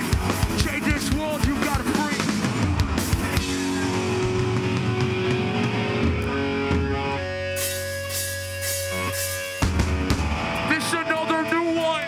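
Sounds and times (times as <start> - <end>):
electric guitars ringing: 0.0 - 12.0.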